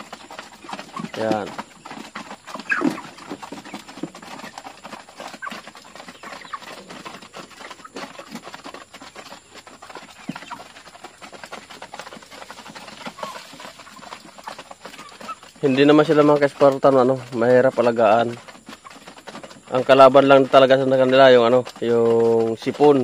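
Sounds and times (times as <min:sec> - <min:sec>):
beaks tapping feeder: 0:00.0 - 0:23.0
chickens clucking: 0:00.0 - 0:23.0.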